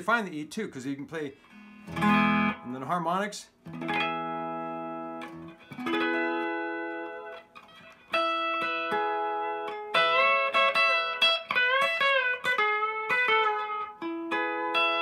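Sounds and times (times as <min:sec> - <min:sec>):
lap steel guitar notes: 0:01.4 - 0:02.8, 0:03.6 - 0:15.0.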